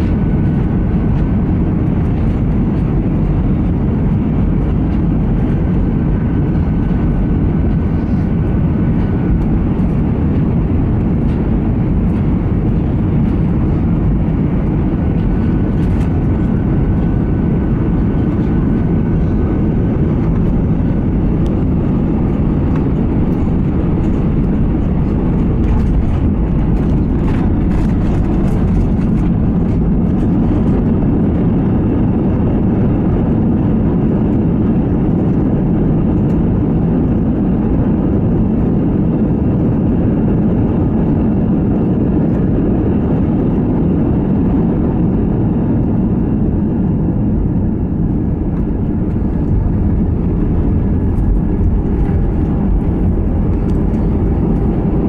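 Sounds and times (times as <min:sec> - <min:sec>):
aircraft cabin low rumble: 0:00.0 - 0:55.0.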